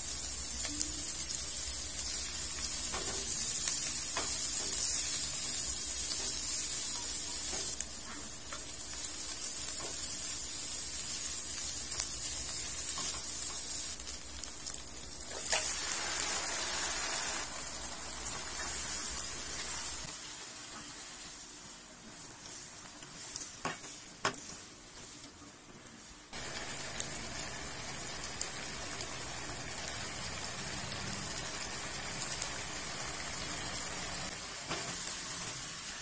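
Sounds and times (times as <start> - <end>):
food sizzling in hot oil: 0.0 - 25.0, 26.3 - 36.0.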